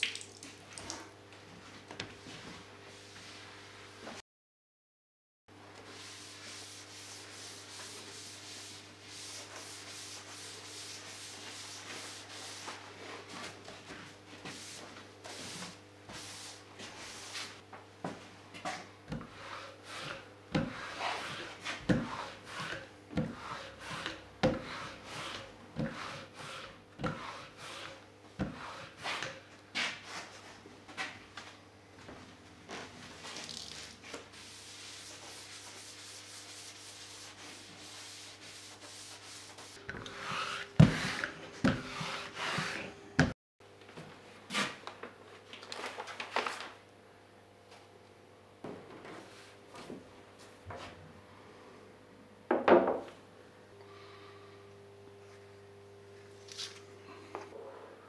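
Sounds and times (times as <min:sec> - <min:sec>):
low workshop hum: 0:00.0 - 0:04.2, 0:05.5 - 0:58.0.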